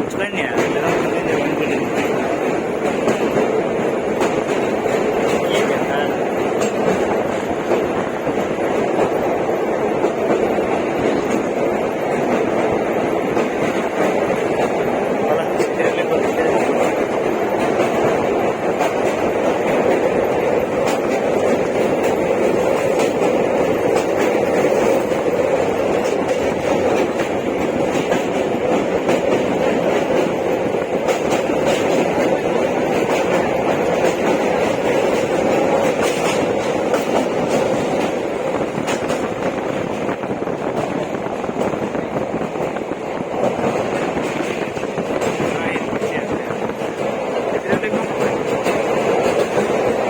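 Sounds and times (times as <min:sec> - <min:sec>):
train wheels rumbling on track: 0:00.0 - 0:50.0.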